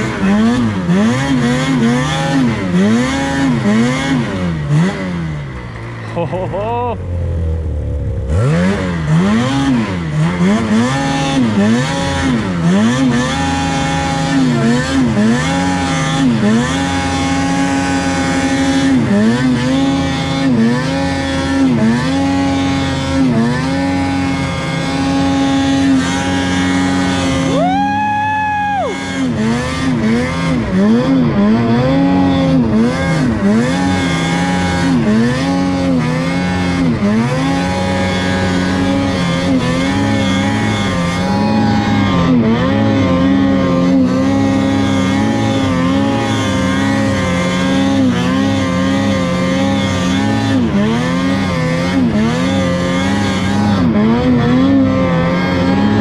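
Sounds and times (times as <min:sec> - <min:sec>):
snowmobile engine revving under load: 0:00.0 - 0:56.0.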